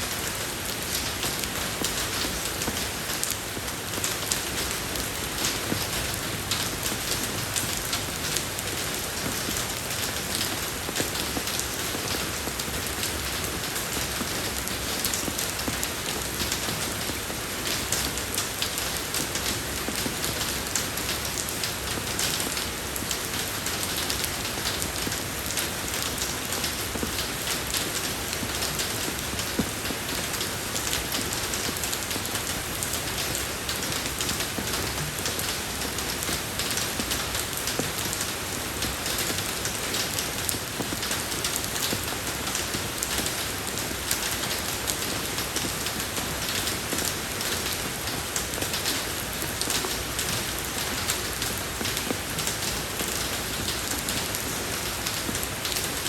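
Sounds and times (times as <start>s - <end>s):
rain falling on road: 0.0s - 56.0s.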